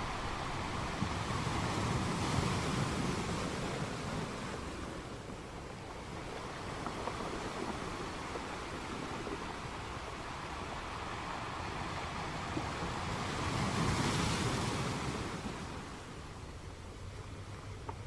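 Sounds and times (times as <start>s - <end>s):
waves washing: 0.0s - 18.0s.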